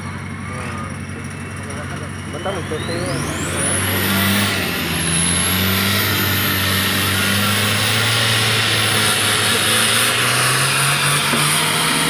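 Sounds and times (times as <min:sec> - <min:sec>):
vehicle engine running hard: 0:00.0 - 0:12.0.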